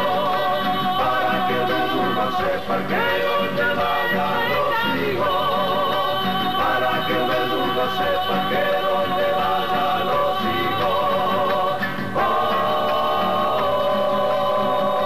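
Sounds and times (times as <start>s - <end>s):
vocal ensemble singing harmony: 0.0s - 15.0s.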